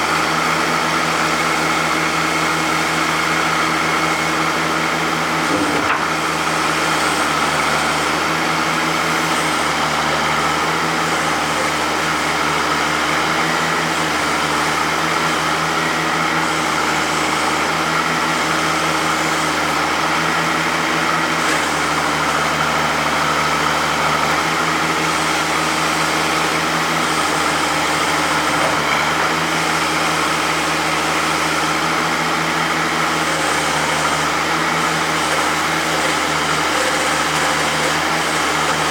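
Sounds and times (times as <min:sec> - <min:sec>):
backhoe engine running steadily: 0:00.0 - 0:38.9.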